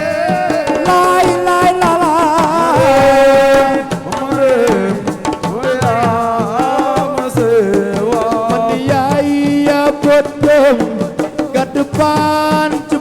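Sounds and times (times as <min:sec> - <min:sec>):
hand drums: 0:00.0 - 0:13.0
person singing wordless notes: 0:00.0 - 0:13.0.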